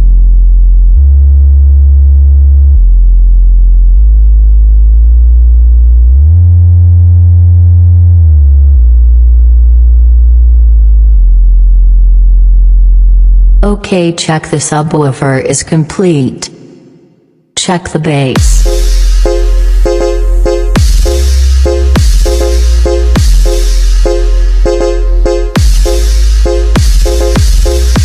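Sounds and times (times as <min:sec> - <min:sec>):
low bass test tones: 0:00.0 - 0:13.8, 0:18.4 - 0:28.0.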